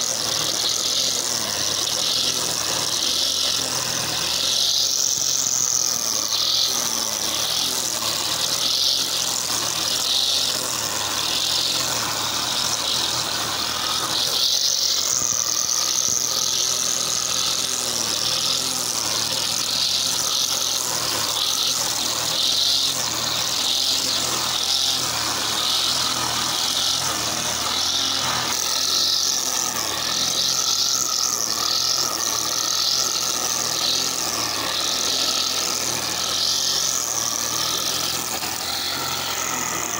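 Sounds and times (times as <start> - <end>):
brush cutter engine: 0.0 - 39.9
cutting head hissing through grass: 0.0 - 39.9.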